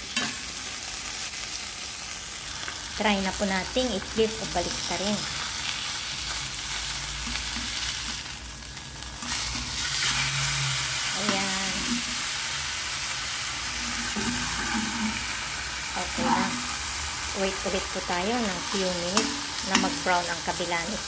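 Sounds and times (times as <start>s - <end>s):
meat sizzling in a frying pan: 0.0s - 21.0s.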